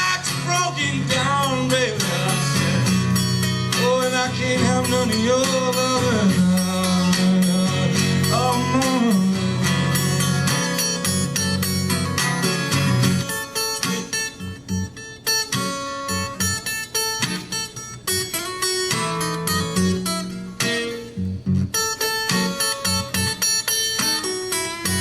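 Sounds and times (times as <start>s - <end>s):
acoustic guitar picking: 0.0s - 25.0s.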